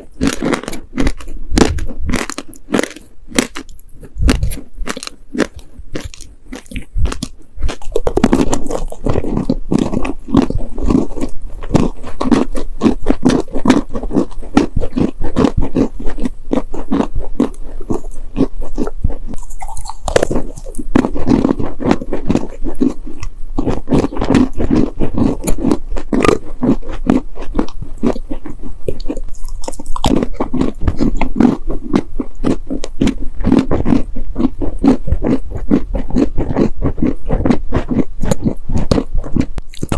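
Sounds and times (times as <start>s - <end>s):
chewing crunchy cookies: 0.0s - 39.9s.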